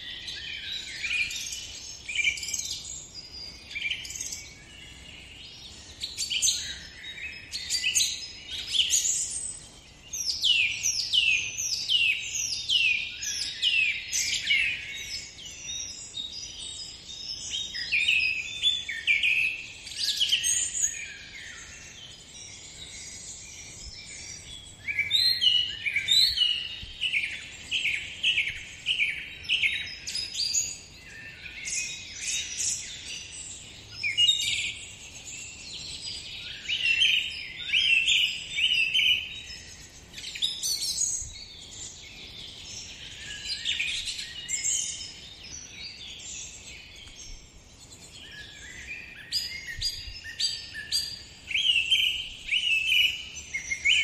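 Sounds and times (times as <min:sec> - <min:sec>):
small birds singing and chirping: 0:00.0 - 0:54.0.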